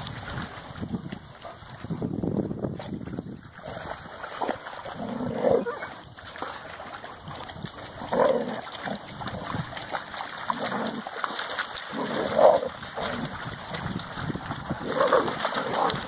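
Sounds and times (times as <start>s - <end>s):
dogs splashing in water: 0.0s - 16.0s.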